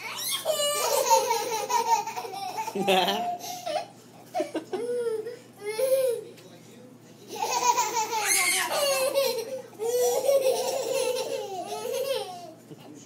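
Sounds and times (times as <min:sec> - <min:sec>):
young children laughing: 0:00.0 - 0:06.3, 0:07.3 - 0:12.8.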